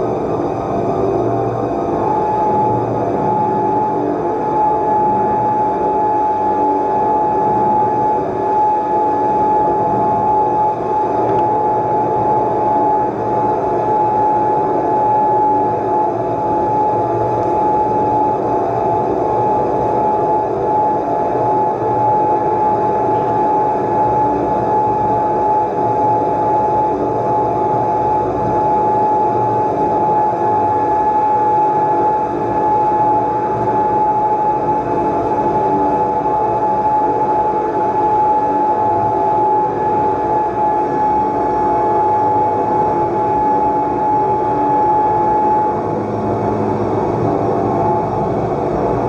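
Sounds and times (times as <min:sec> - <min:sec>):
dense low uneven noise: 0:00.0 - 0:49.0
sustained high drone tone: 0:00.0 - 0:49.0.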